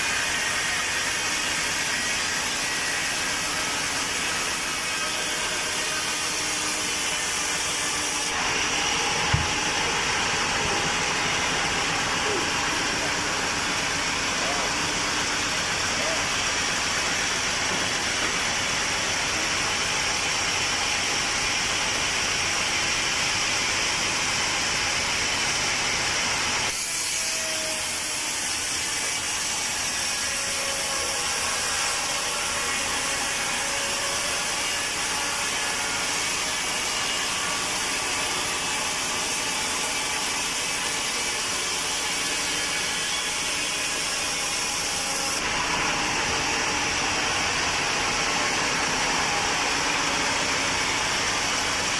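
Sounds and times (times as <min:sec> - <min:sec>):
sawmill saw cutting wood: 0:00.0 - 0:51.9.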